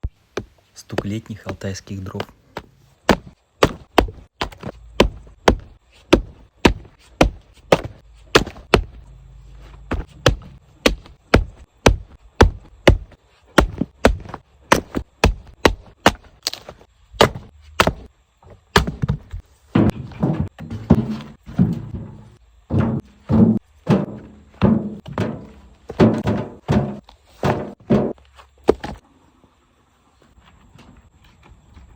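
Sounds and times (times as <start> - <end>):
firewood logs knocking: 2.2 - 9.0, 9.9 - 29.0.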